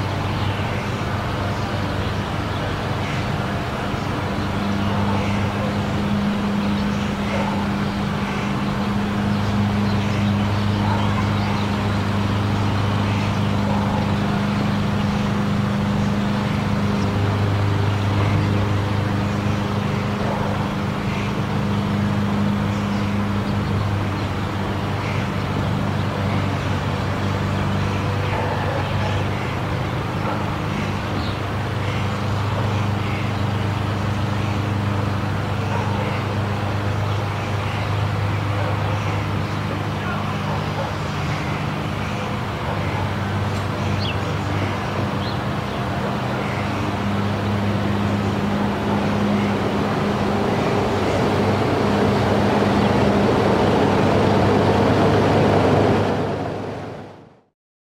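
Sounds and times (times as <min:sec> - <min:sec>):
monorail drive hum and rumble: 0:00.0 - 0:57.3.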